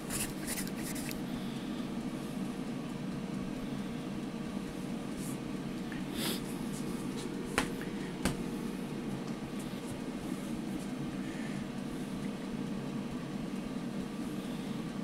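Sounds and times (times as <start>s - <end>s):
air fryer fan hum: 0.0s - 15.0s.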